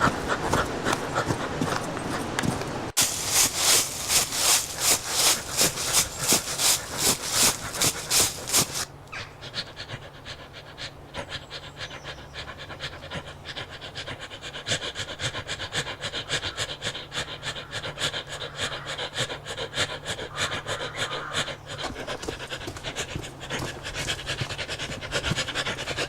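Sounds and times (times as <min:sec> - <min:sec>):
man panting heavily: 0:03.0 - 0:26.0.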